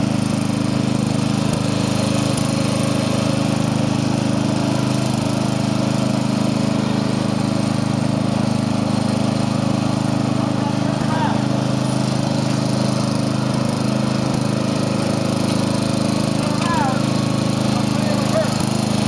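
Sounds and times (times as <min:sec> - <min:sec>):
riding lawn mower engine running: 0:00.0 - 0:19.0.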